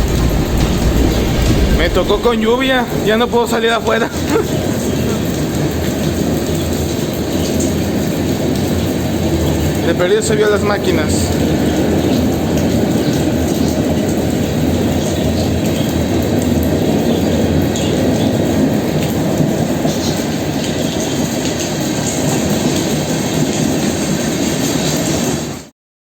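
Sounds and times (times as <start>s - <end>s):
freight train wheels rumbling on track: 0.0s - 25.6s.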